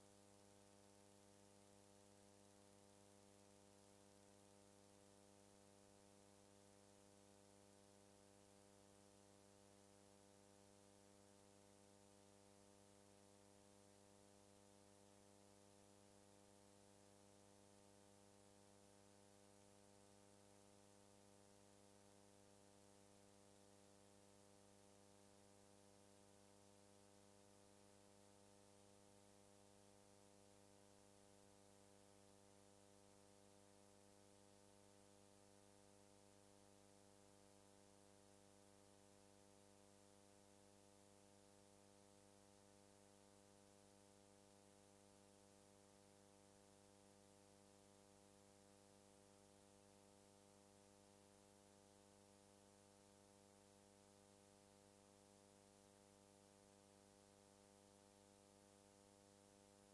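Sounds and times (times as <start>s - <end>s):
faint electrical hum: 0.0s - 59.9s.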